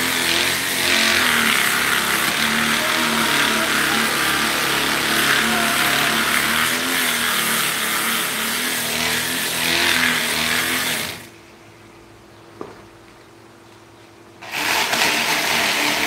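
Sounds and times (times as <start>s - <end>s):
power tool motor running: 0.0s - 11.3s, 14.4s - 16.0s.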